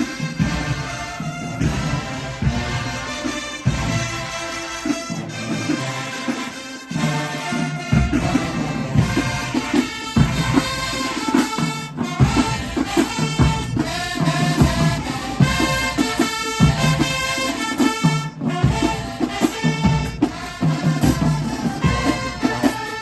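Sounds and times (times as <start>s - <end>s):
marching band brass: 0.0s - 23.0s.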